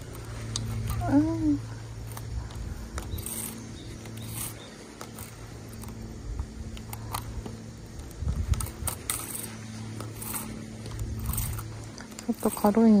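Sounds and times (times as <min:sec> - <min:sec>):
small clicks and rustles: 0:00.0 - 0:13.0
steady low hum: 0:00.0 - 0:13.0.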